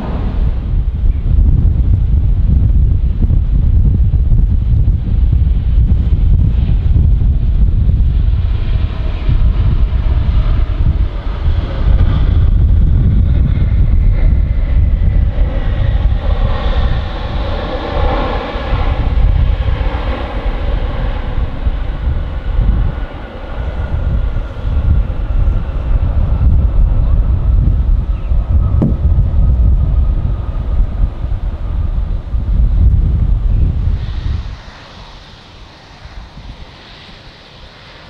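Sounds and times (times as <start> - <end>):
jet airliner passing: 0.0 - 38.0
wind buffeting microphone: 0.0 - 38.0.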